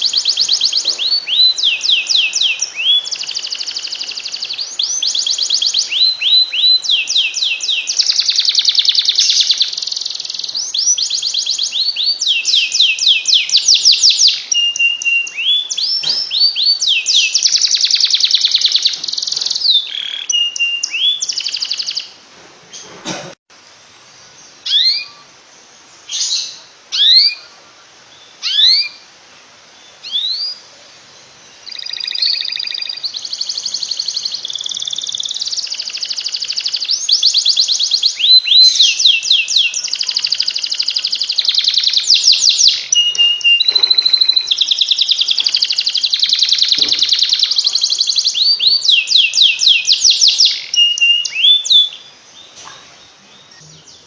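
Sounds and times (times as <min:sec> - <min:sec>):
canary singing: 0:00.0 - 0:22.9, 0:24.3 - 0:29.1, 0:29.7 - 0:54.0.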